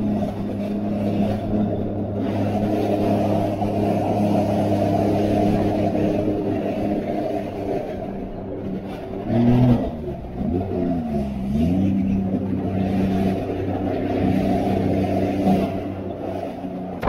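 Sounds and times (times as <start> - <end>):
jet ski engine droning: 0.0 - 17.0.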